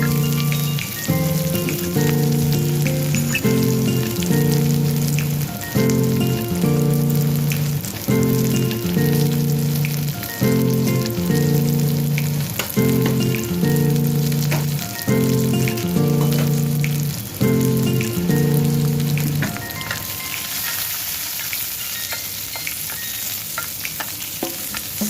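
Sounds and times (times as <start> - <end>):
background music: 0.0 - 20.8
food sizzling in hot oil: 0.0 - 25.0.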